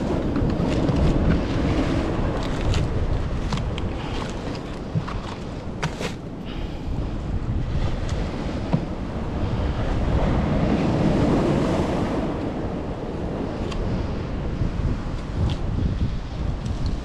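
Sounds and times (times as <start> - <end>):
surf washing against rocks: 0.0 - 17.0
wind noise on microphone: 0.0 - 17.0.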